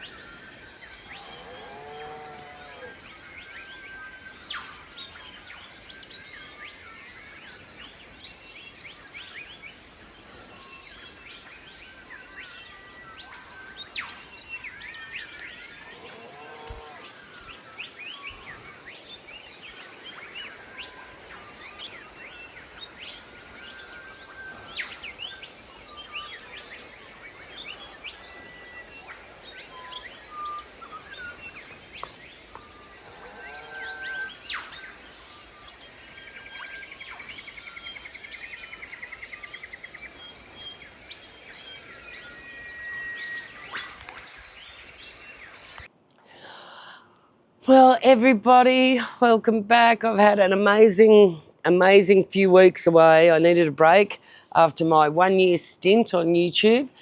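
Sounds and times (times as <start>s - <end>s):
birds chirping and whistling: 0.0s - 46.9s
steady background hiss: 0.0s - 57.0s.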